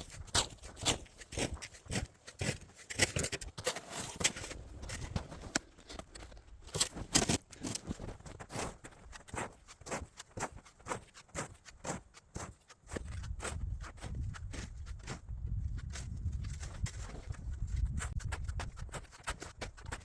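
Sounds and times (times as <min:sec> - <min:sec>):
snow crunching and scraping: 0:00.0 - 0:20.0.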